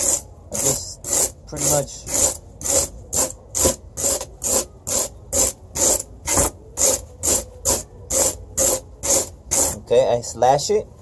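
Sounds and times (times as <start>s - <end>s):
knife scraping styrofoam: 0.0s - 9.9s.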